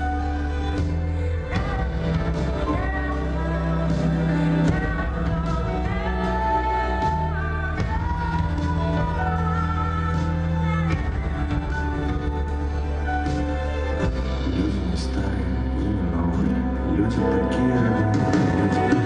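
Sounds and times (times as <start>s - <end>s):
sung melody over steady bass: 0.0s - 19.0s.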